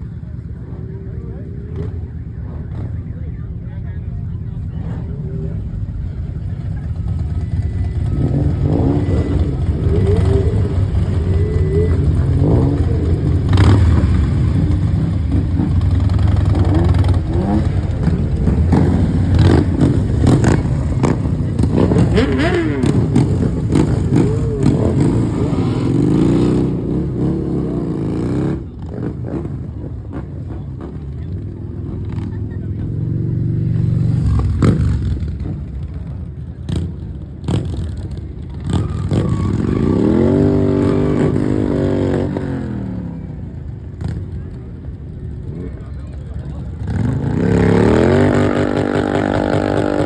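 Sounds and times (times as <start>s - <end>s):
sports car engines revving: 4.5s - 50.0s.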